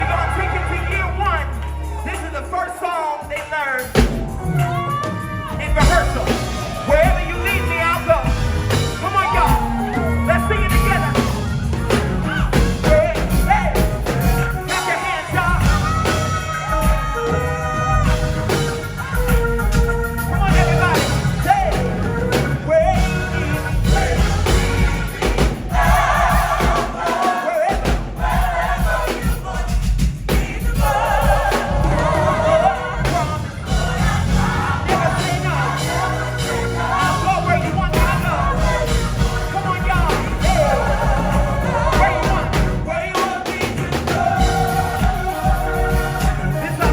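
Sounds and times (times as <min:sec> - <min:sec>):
live gospel song with band: 0:00.0 - 0:46.9.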